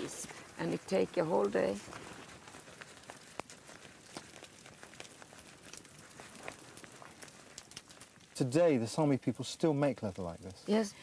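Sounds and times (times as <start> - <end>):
leather hide crinkling: 0.0 - 9.0.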